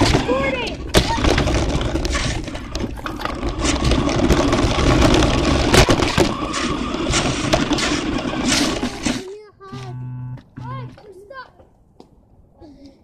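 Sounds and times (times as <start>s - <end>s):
rc car drive and wheels: 0.0s - 11.2s
rattling knocks and clicks: 0.0s - 11.7s.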